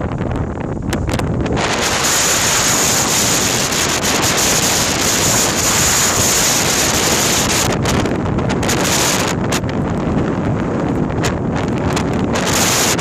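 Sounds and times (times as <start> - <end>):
sea water rushing: 0.4 - 13.0.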